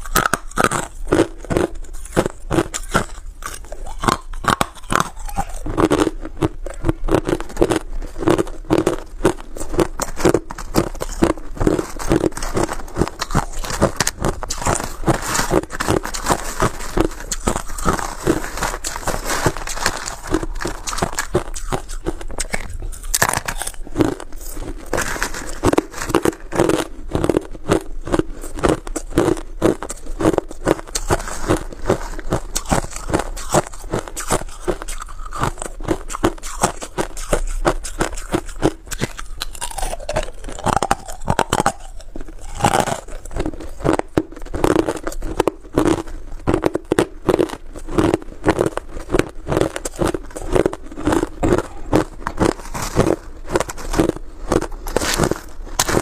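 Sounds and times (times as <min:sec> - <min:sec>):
ice crunching in mouth: 0:00.0 - 0:56.0.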